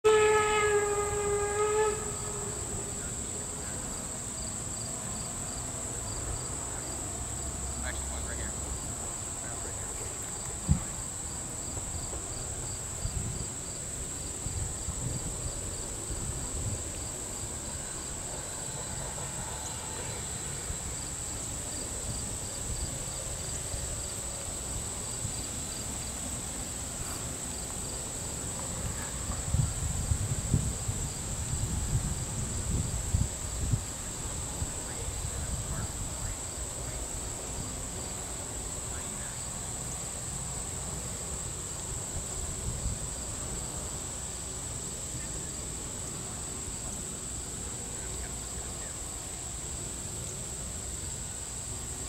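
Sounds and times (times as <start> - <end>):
insects buzzing: 0.0 - 52.0.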